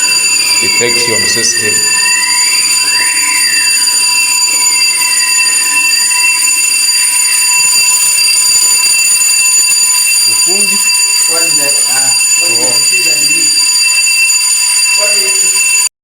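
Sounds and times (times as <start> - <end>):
siren wail rising and falling: 0.0 - 15.6
high continuous alarm tone: 0.0 - 15.9.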